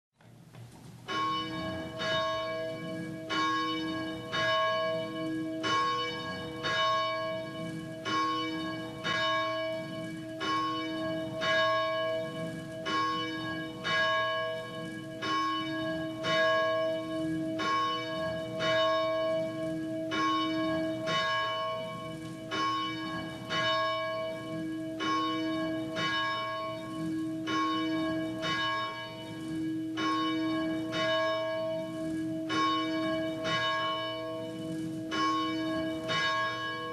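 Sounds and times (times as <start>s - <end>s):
church bell ringing: 1.0s - 36.9s.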